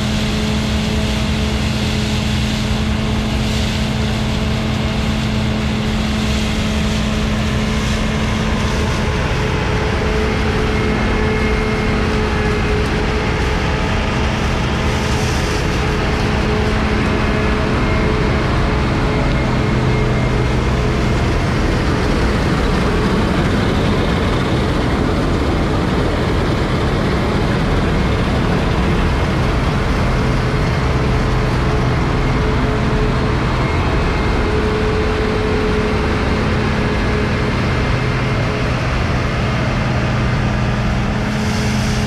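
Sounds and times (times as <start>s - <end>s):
combine harvester drone: 0.0s - 42.0s.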